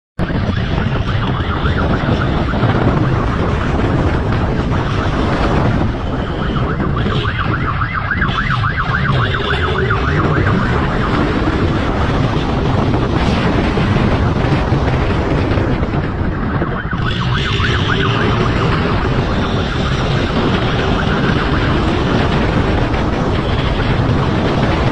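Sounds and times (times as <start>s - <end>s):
police siren yelping: 0.2s - 24.9s
wind on microphone: 0.2s - 24.9s.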